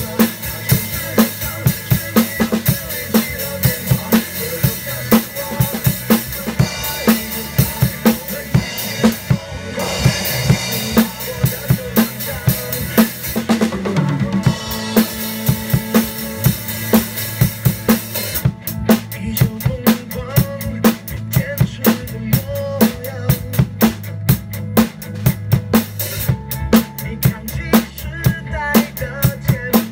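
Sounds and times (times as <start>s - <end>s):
drum kit groove: 0.0s - 29.9s.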